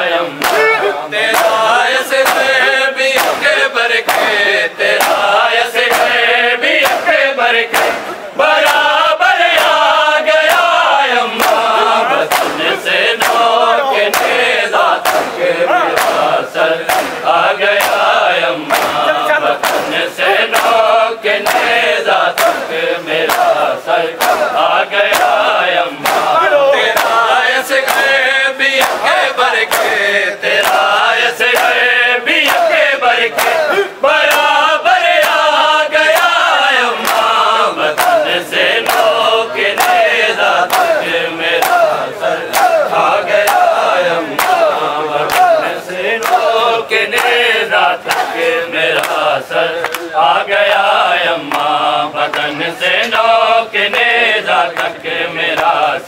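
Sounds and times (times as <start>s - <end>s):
men chanting in unison: 0.0s - 56.0s
hands slapping chests: 0.3s - 6.2s, 6.8s - 7.1s, 7.7s - 28.2s, 28.8s - 30.0s, 30.6s - 31.8s, 32.4s - 34.6s, 35.2s - 46.5s, 47.1s - 47.4s, 48.0s - 50.9s.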